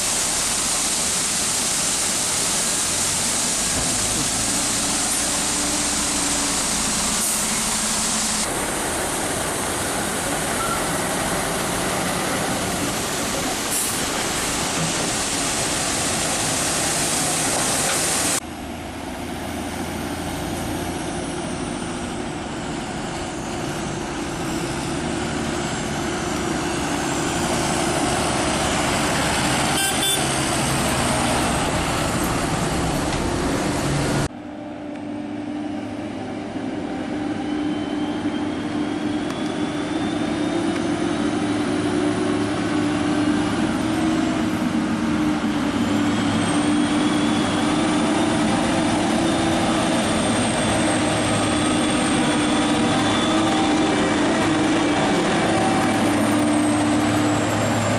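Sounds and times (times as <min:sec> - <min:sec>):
combine harvester running: 0:02.7 - 0:57.9.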